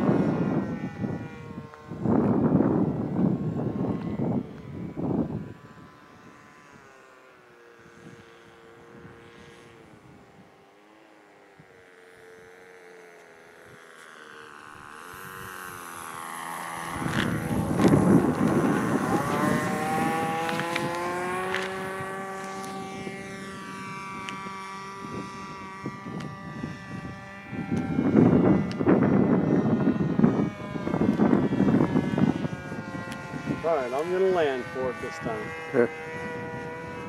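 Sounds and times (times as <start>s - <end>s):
model airplane engine whine: 0.0s - 37.0s
plane touching down: 0.0s - 37.0s.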